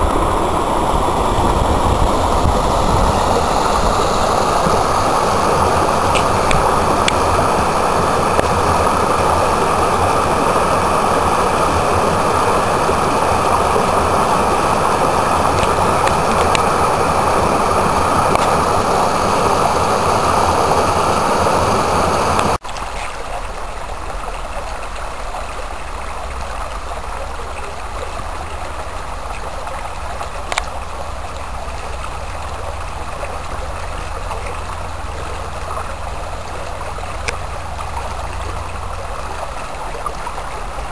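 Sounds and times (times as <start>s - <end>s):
shallow stream over stones: 0.0s - 40.9s
water rushing down rocky cascade: 0.0s - 40.9s.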